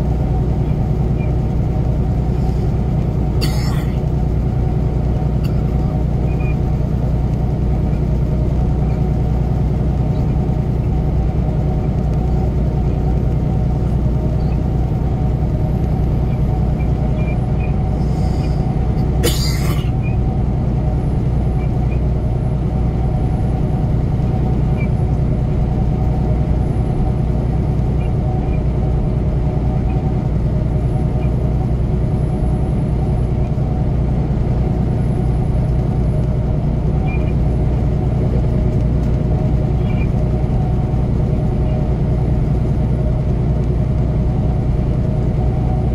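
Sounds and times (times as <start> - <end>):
diesel engine drone: 0.0 - 45.9
road noise: 0.0 - 45.9.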